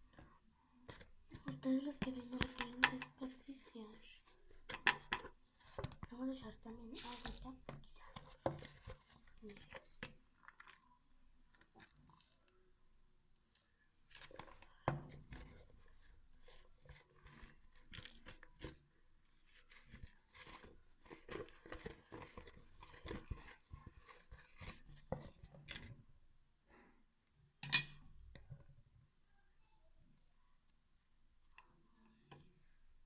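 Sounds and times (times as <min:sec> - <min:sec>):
hands kneading wet dough: 0:00.0 - 0:29.0.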